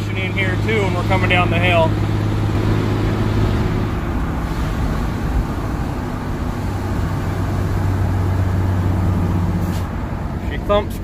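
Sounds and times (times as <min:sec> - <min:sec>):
diesel engine thumping drone: 0:00.0 - 0:11.0
road and tyre noise: 0:00.0 - 0:11.0.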